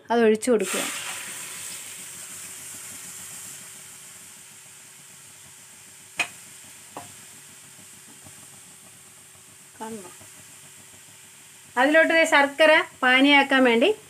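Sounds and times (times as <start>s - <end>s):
liquid sizzling in hot pan: 0.6s - 14.0s.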